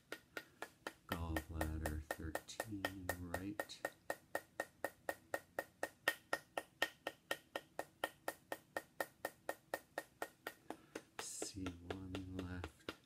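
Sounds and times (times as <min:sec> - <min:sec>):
metal rod tapping stone: 0:00.0 - 0:13.0.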